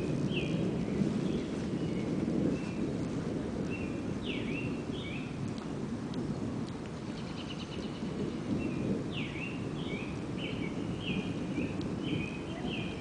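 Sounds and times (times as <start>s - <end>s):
songbird singing: 0.0s - 2.9s, 3.6s - 5.4s, 6.2s - 13.0s
distant thunder rumble: 0.0s - 13.0s.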